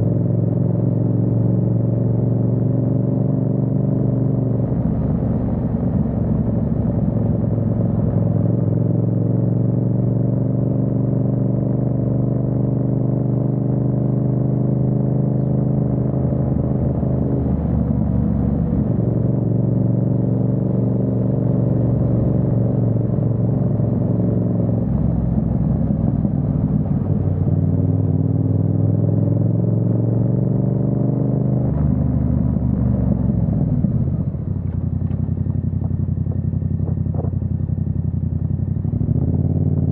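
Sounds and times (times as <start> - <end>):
motorcycle engine running: 0.0 - 30.6, 31.8 - 39.9.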